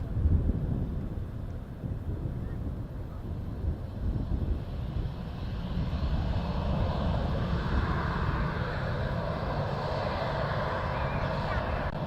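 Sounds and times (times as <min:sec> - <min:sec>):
aircraft engines: 0:00.0 - 0:12.0.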